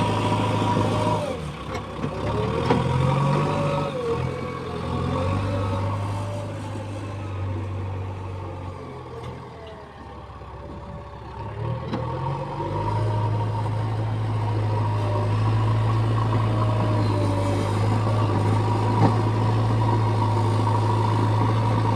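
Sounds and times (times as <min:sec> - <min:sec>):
heavy diesel engine running: 0:00.0 - 0:21.9.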